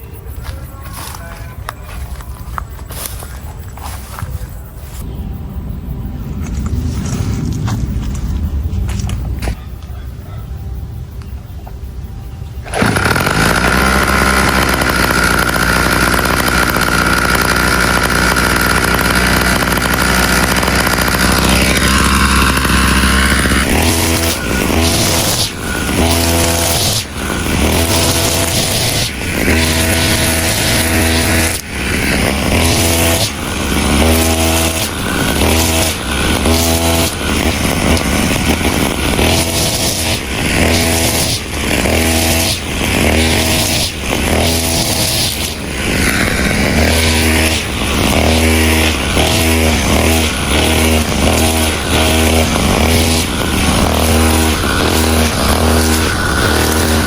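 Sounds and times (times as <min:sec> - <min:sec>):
brush cutter engine running: 0:00.0 - 0:05.1, 0:12.6 - 0:57.0.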